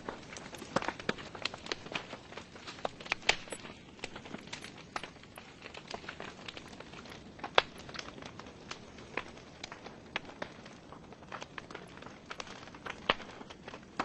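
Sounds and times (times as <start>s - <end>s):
logs crackling in fireplace: 0.0s - 14.0s
sharp pops of fire: 0.0s - 14.0s.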